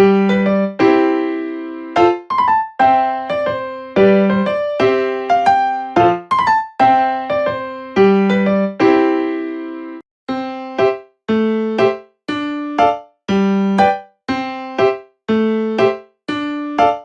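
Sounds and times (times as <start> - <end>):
bouncy electric piano tune: 0.0 - 17.0.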